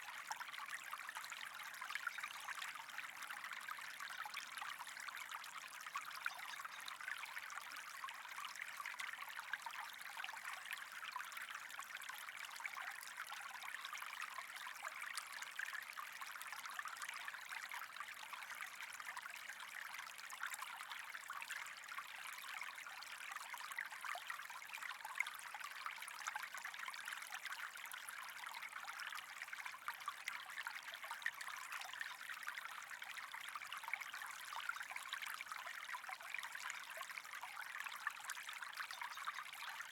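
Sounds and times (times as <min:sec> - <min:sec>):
water trickling and bubbling: 0:00.0 - 0:39.9.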